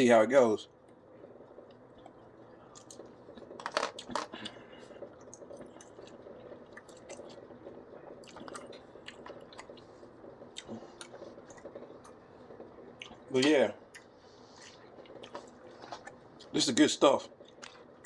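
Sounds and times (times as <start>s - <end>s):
person chewing crispy food: 1.5s - 16.5s, 17.4s - 18.0s.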